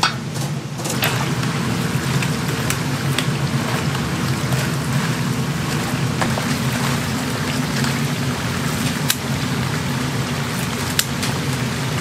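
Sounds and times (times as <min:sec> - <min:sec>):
low steady rumble: 0:00.0 - 0:12.0
oil sizzling with crackles: 0:00.0 - 0:12.0.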